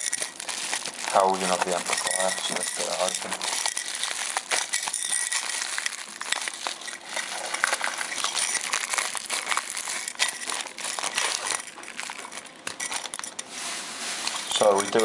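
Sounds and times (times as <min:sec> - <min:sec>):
bubble wrap bag crinkling: 0:00.0 - 0:15.0.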